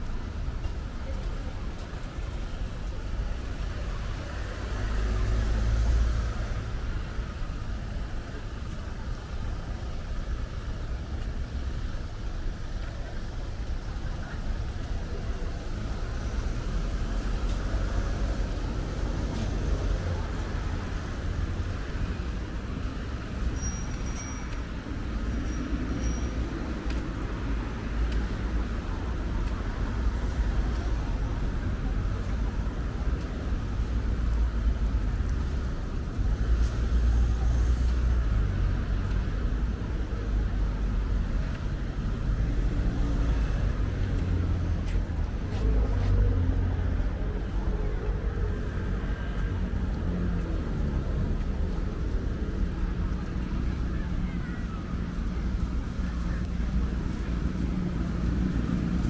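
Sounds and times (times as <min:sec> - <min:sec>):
low rumble of passing cars: 0:00.0 - 0:59.0.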